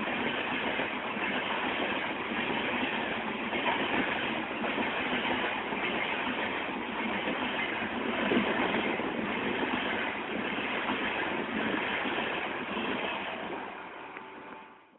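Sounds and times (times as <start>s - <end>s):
train coaches rolling on track: 0.0s - 14.9s.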